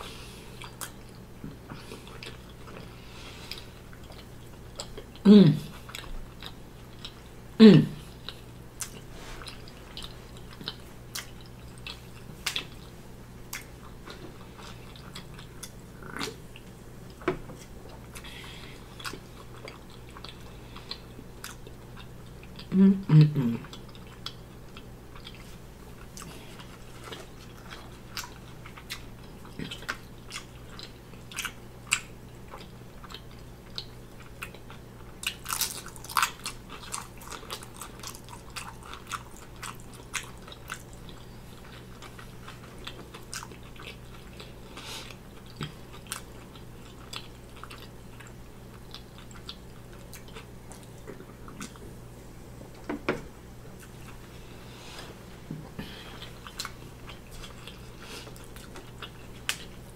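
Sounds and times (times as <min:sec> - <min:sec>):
close chewing: 0:00.1 - 0:07.4, 0:08.0 - 0:22.7, 0:23.6 - 0:51.8, 0:56.0 - 0:59.9.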